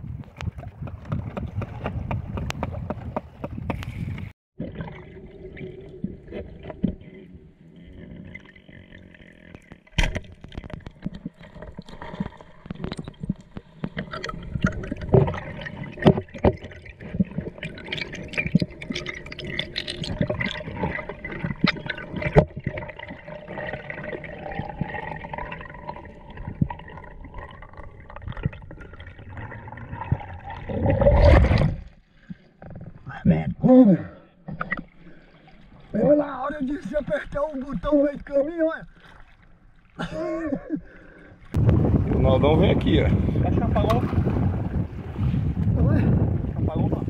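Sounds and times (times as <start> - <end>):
water sloshing and gurgling: 0.0 - 47.0.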